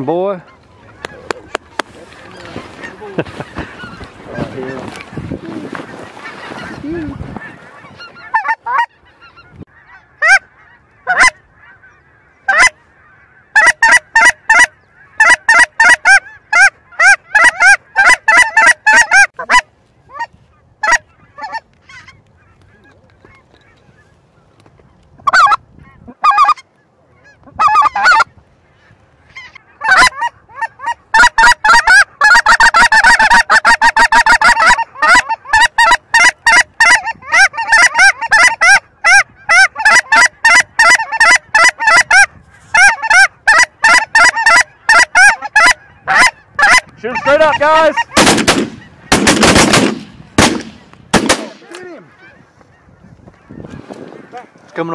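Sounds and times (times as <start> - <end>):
goose honking: 0.3 - 24.5, 25.2 - 50.6, 51.2 - 54.9.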